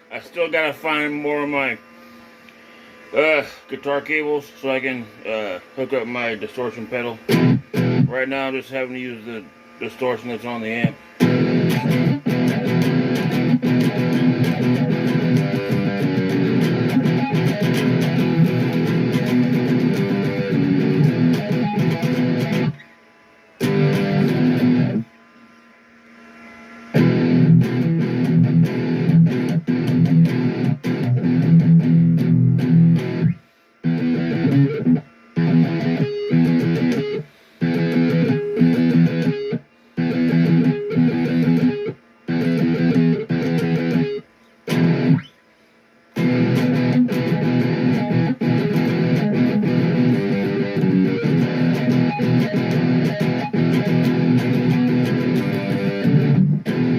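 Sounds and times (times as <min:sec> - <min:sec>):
distorted electric guitar chords: 0:00.0 - 0:45.3, 0:46.0 - 0:56.9.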